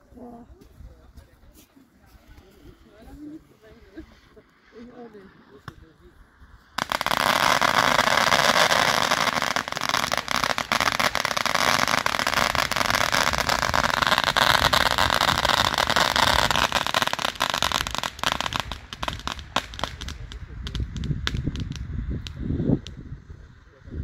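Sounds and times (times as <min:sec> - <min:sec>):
firework fountain crackling: 0:02.4 - 0:24.0.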